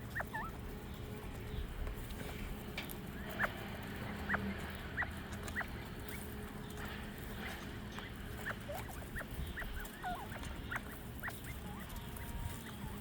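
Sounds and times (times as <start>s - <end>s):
quail chick peeping: 0.0s - 13.0s.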